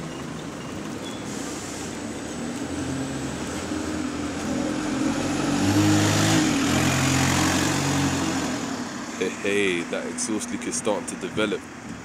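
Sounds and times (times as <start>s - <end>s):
bus diesel engine accelerating: 0.0s - 12.0s.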